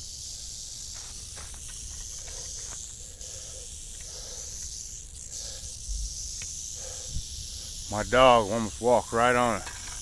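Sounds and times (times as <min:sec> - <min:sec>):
rattlesnake rattling: 0:00.0 - 0:10.0.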